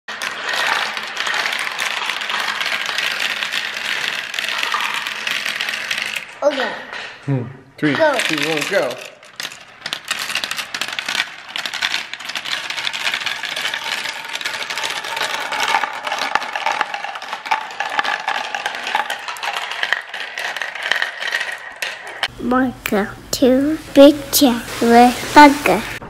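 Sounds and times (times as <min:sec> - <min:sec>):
marbles clattering down plastic run: 0:00.1 - 0:07.1, 0:07.8 - 0:26.0.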